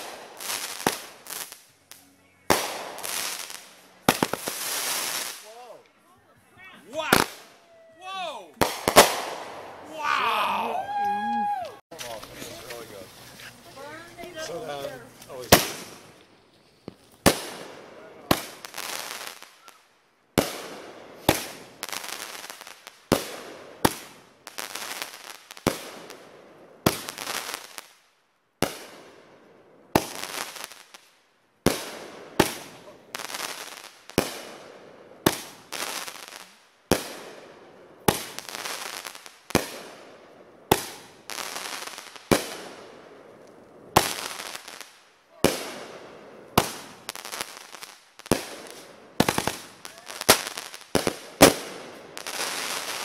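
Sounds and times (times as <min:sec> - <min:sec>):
fireworks bangs: 0:00.0 - 0:05.8, 0:06.9 - 0:07.6, 0:08.2 - 0:10.1, 0:10.8 - 0:19.8, 0:20.4 - 0:27.9, 0:29.9 - 0:31.0, 0:31.6 - 0:53.0
fireworks crackle: 0:00.0 - 0:06.0, 0:06.6 - 0:10.0, 0:10.8 - 0:53.0.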